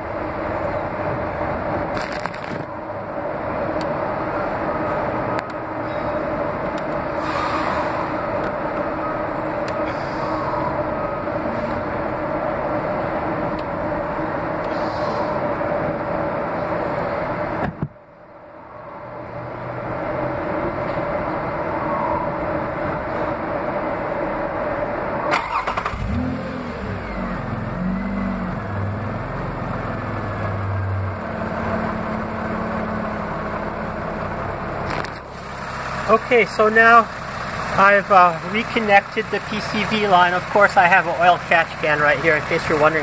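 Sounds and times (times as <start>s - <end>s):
car engine cranking and idling: 0.0s - 18.6s, 19.5s - 43.0s.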